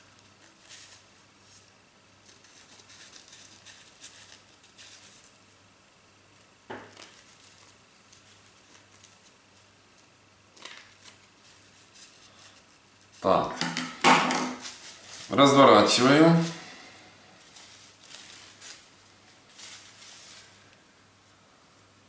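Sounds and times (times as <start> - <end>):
paper rustling: 0.0 - 5.6, 6.8 - 13.6, 14.2 - 20.8.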